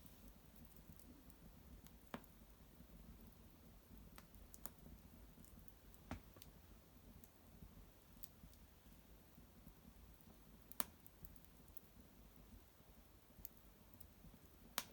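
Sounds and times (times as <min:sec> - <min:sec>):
small twig fire crackling: 0:00.0 - 0:14.9.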